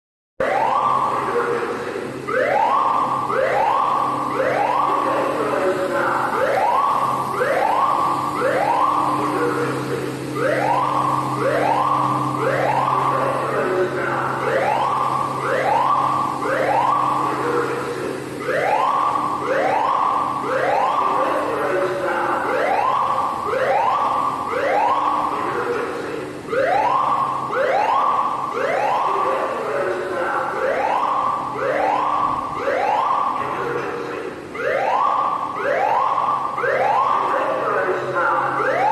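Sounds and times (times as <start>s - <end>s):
fire alarm whoop tones: 0.4s - 25.9s, 26.5s - 29.6s, 30.4s - 33.4s, 34.5s - 37.7s, 38.5s - 38.9s
steady low hum: 0.5s - 38.8s.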